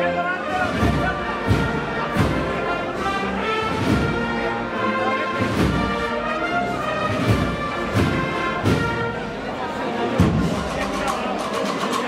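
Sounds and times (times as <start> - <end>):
brass band playing march: 0.0 - 12.0
drum beats: 0.5 - 4.6, 5.4 - 9.3, 10.1 - 12.0.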